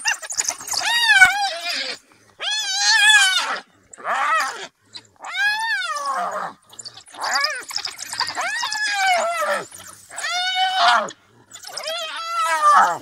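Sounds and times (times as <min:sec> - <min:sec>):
animals squealing: 0:00.0 - 0:13.0.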